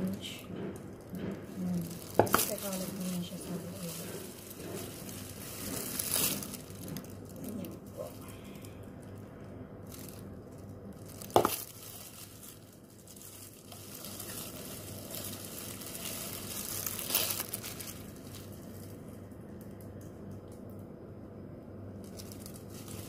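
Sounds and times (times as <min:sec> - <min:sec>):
plastic gloves crinkling: 0:00.0 - 0:20.7, 0:21.7 - 0:23.0.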